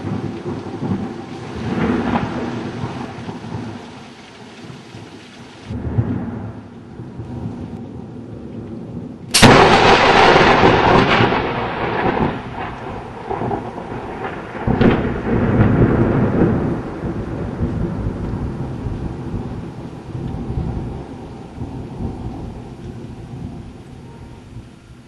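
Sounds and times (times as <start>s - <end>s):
thunder crack and rumble: 0.0s - 4.0s, 5.7s - 24.8s.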